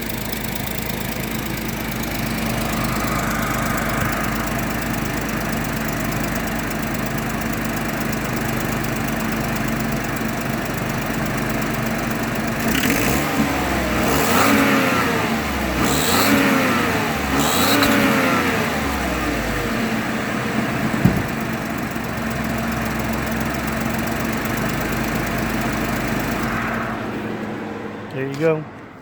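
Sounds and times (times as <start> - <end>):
truck engine idling and revving: 0.0 - 29.0.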